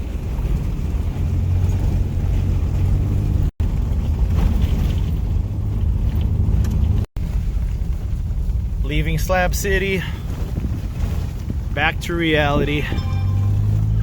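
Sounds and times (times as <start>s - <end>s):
road and wind noise: 0.0s - 14.0s
vehicle rumbling on the move: 0.0s - 14.0s.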